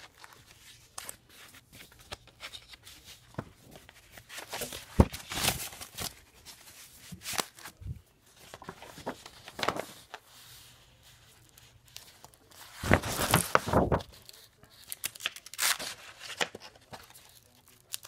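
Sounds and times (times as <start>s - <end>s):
paper and plastic sleeves rustling: 0.0s - 18.0s.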